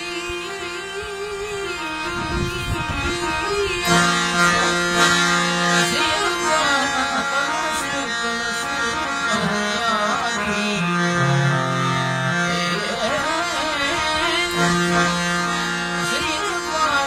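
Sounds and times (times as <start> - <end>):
harmonium: 0.0 - 17.0
man singing: 2.9 - 17.0.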